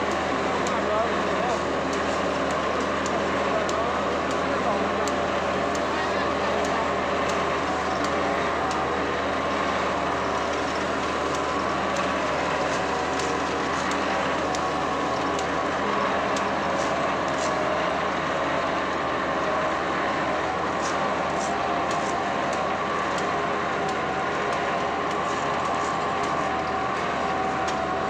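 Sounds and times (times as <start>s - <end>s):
asphalt paver engine drone: 0.0s - 28.0s.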